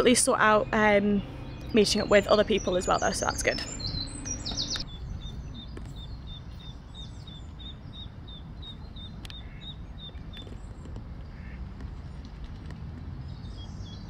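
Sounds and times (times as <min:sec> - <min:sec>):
low outdoor rumble: 0:00.0 - 0:13.8.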